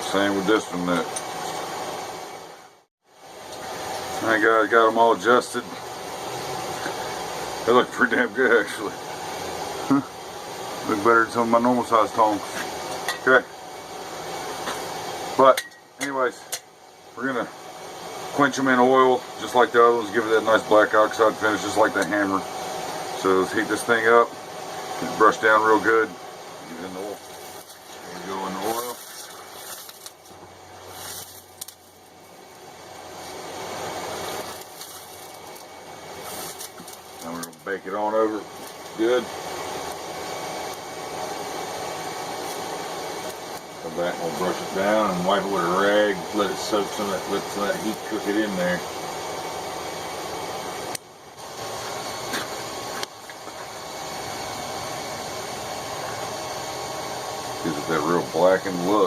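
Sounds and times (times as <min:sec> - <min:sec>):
forge hissing: 0:00.0 - 0:59.0
hot steel sizzling in oil: 0:00.0 - 0:59.0.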